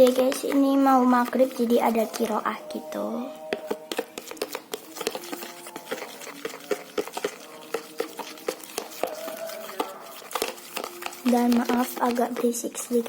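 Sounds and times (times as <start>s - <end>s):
utensil stirring sticky slime: 0.0s - 13.0s
distant chanting: 1.6s - 12.9s.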